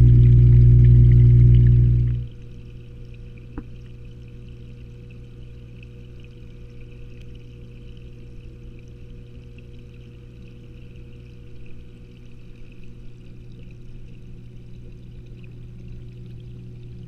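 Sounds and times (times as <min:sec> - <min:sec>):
aquarium pump hum: 0:00.0 - 0:17.0
circulating water: 0:00.0 - 0:17.0.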